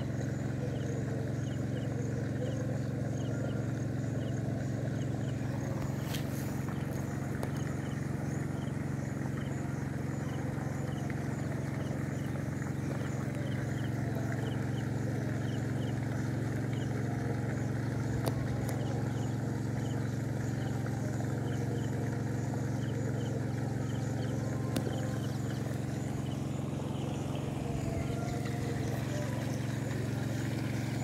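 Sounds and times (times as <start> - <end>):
engine drone: 0.0 - 31.0.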